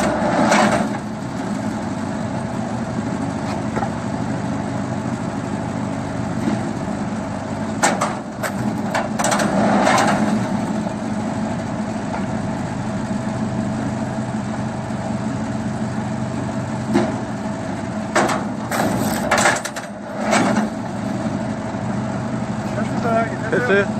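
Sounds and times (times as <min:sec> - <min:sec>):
wood splitting machine humming: 0:00.0 - 0:23.9.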